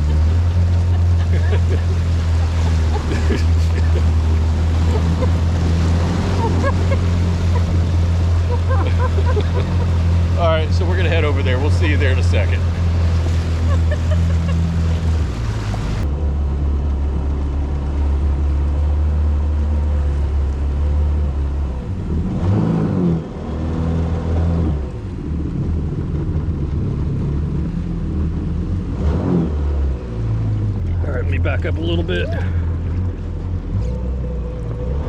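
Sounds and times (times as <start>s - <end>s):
water rushing: 0.0s - 28.8s, 29.8s - 35.0s
watercraft engine running: 0.0s - 35.0s.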